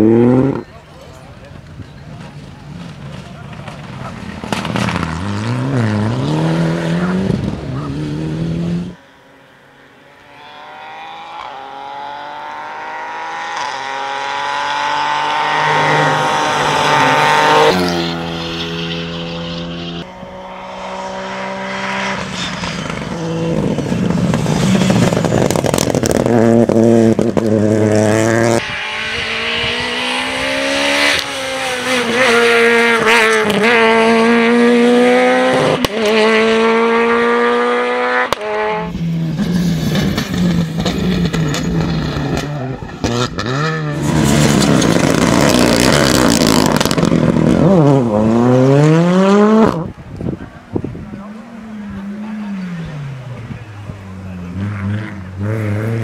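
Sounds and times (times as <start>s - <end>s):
rally cars at full throttle: 0.0s - 56.0s.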